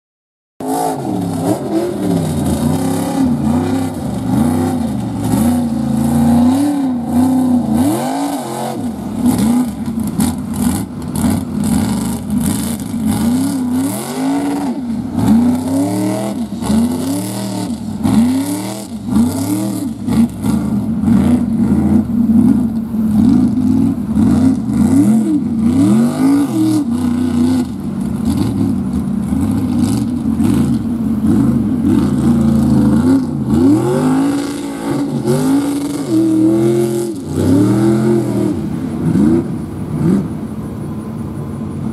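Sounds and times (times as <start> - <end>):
engine revving hard: 0.6 - 28.7, 29.3 - 40.3
tyres churning through mud: 0.6 - 40.8.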